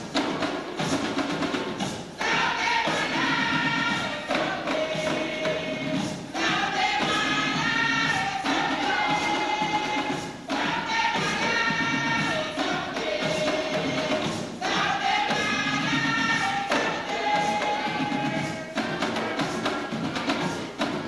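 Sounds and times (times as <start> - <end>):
group of voices singing: 0.0 - 21.0
hand drums beating: 0.0 - 21.0.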